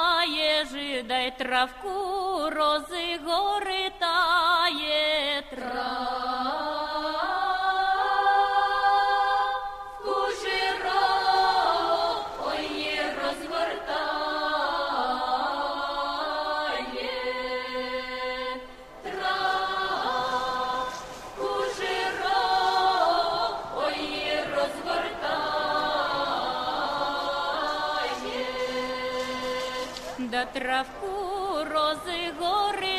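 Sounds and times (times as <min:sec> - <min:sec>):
group singing unaccompanied folk: 0:04.5 - 0:32.9.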